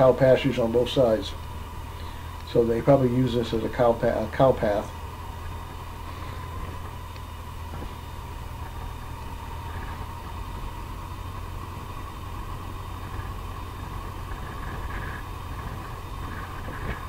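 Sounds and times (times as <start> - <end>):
motorcycle engine running at low speed: 0.0 - 17.0.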